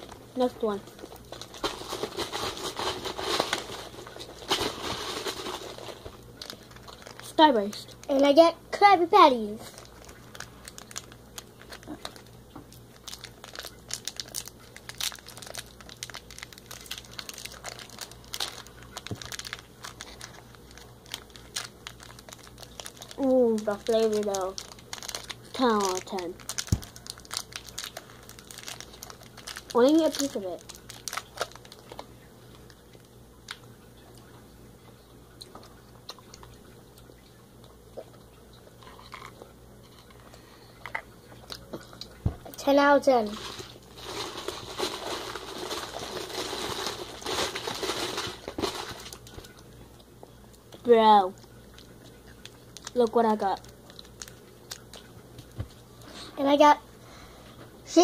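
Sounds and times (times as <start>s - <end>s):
candy wrappers crinkling and tearing: 0.0s - 8.4s, 9.3s - 34.3s, 38.8s - 49.7s, 50.7s - 56.6s.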